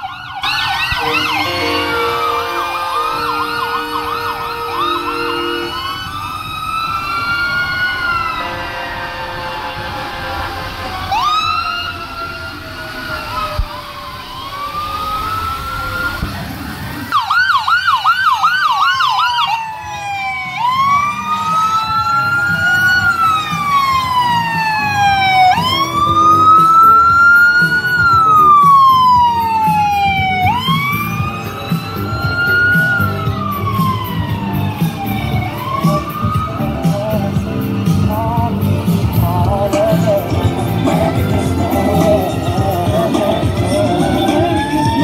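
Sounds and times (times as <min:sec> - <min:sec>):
fire truck siren: 0:00.0 - 0:45.0.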